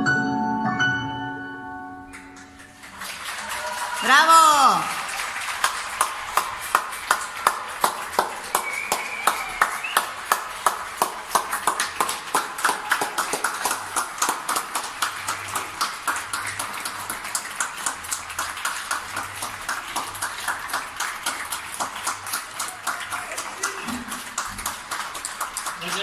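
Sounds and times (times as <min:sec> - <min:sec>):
distant applause: 0:02.1 - 0:26.0
person clapping: 0:02.1 - 0:26.0.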